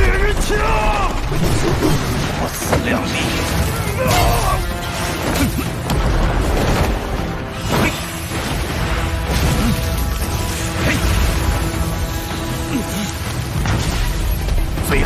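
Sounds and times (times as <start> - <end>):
background music: 0.0 - 15.0
crashes and booming impacts: 0.0 - 15.0.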